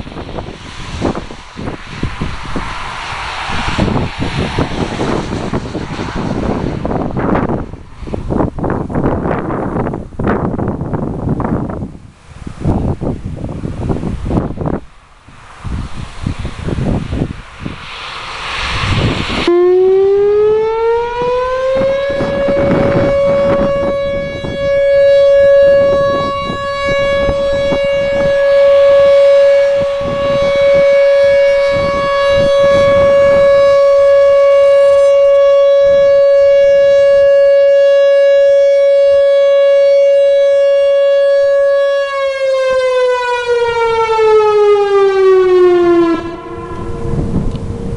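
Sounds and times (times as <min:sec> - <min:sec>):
warning siren wailing: 0:00.0 - 0:11.8, 0:16.3 - 0:47.9
wind buffeting microphone: 0:00.0 - 0:47.9.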